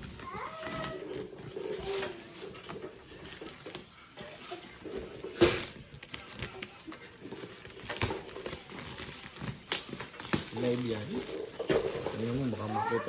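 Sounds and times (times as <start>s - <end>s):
cardboard packaging rustling: 0.0s - 13.0s.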